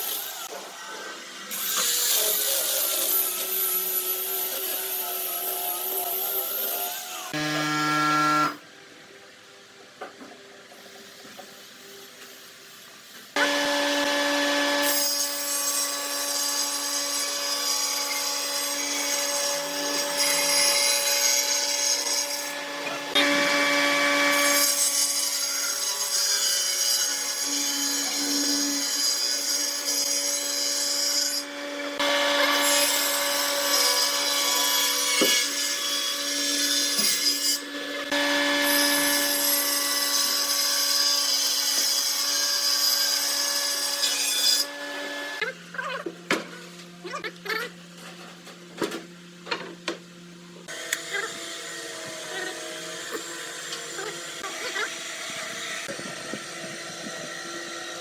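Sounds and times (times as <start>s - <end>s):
electric power tool cutting wood: 0.0s - 8.6s, 13.4s - 46.2s, 50.6s - 58.0s.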